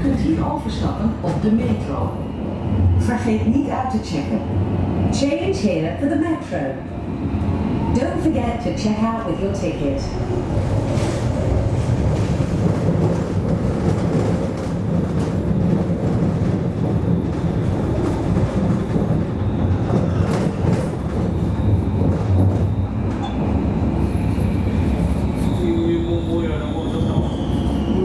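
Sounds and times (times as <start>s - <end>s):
tram wheels rumbling: 0.0s - 28.0s.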